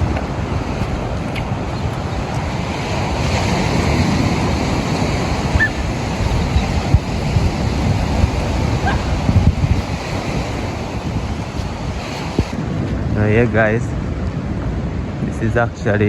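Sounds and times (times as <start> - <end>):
rough sea surf washing ashore: 0.0 - 16.0
wind buffeting microphone: 0.0 - 16.0.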